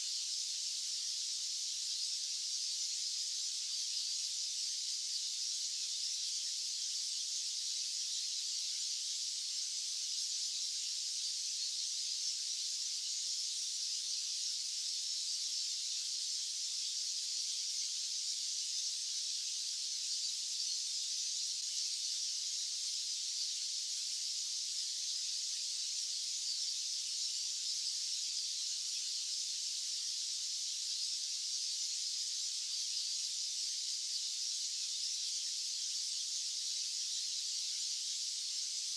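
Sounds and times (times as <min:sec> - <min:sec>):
white-noise hiss: 0:00.0 - 0:38.9.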